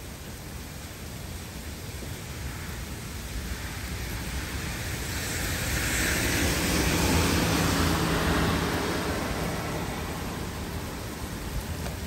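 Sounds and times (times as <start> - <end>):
steady rain hiss: 0.0 - 12.0
vehicle passing on wet street: 0.1 - 12.0.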